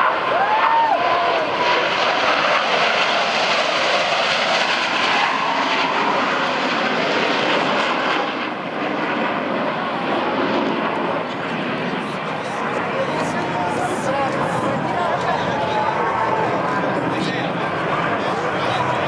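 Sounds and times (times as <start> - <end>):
jet roar: 0.0 - 19.0.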